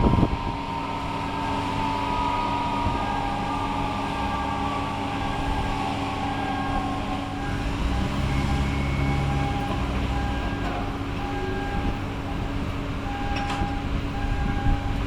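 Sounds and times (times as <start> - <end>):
jet engines running: 0.0 - 14.2.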